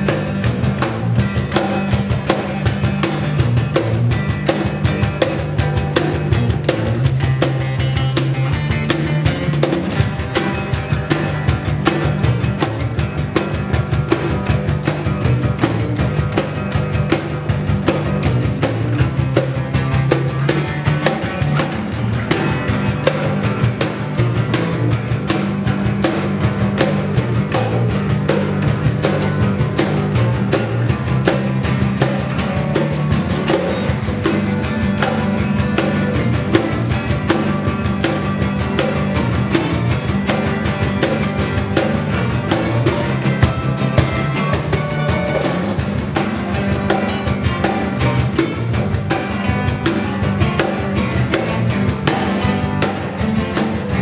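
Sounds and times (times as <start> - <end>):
acoustic guitars strummed: 0.0 - 54.0
cajon beat: 0.0 - 54.0.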